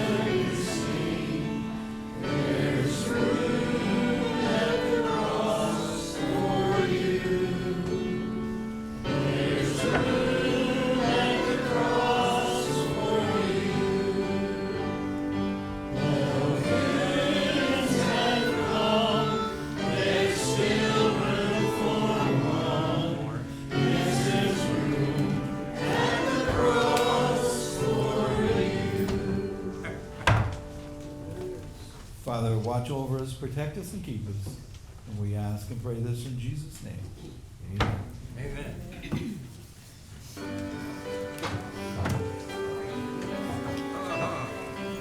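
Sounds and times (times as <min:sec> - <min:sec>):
choir singing a hymn: 0:00.0 - 0:31.9, 0:40.2 - 0:45.0.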